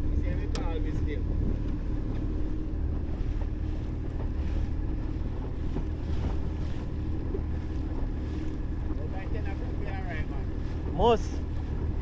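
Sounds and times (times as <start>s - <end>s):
boat engine running: 0.0s - 12.0s
water wash: 0.0s - 12.0s
wind noise on microphone: 0.0s - 12.0s.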